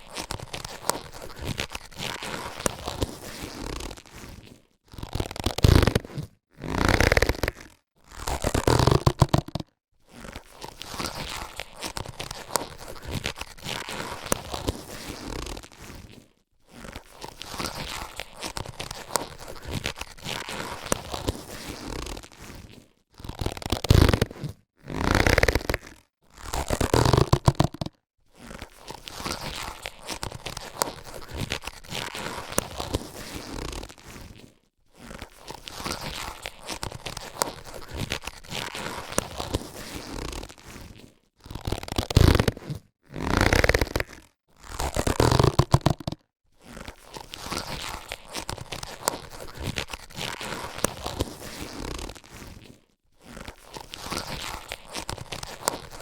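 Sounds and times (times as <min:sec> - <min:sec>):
latex gloves rustling and squeaking: 0:00.0 - 0:56.0.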